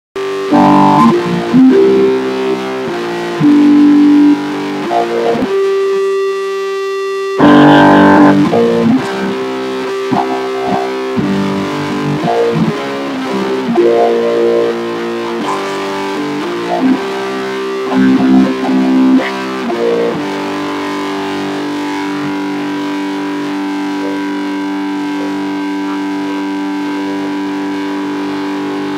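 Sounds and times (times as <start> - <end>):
distorted instrumental music: 0.2 - 28.9.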